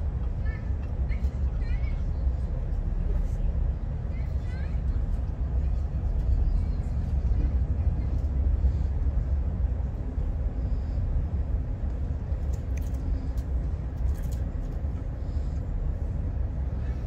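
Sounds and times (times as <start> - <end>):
train coach rumble: 0.0 - 17.0.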